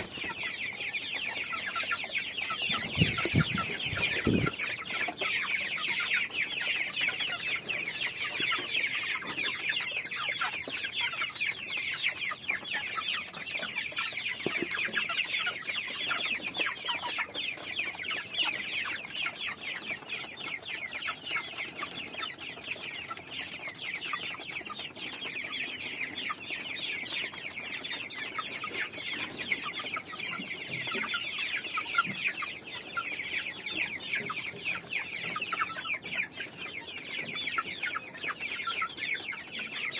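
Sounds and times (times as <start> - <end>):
chickens peeping: 0.0 - 39.9.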